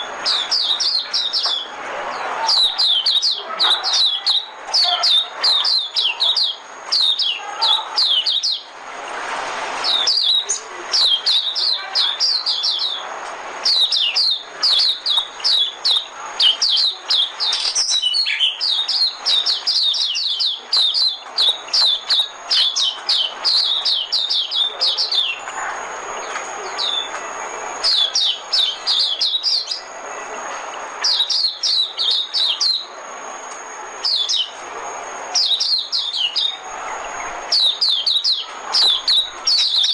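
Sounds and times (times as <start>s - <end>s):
bird twittering: 0.0s - 8.7s, 9.8s - 33.1s, 34.0s - 39.9s.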